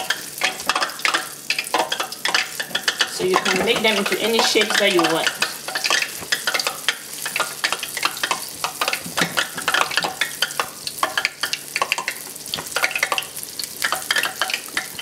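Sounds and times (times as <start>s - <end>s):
dough sizzling in hot oil: 0.0s - 15.0s.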